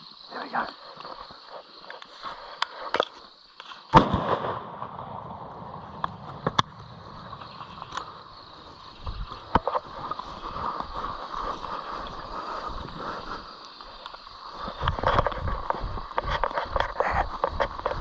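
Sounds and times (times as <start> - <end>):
night insect chorus: 0.0 - 18.0.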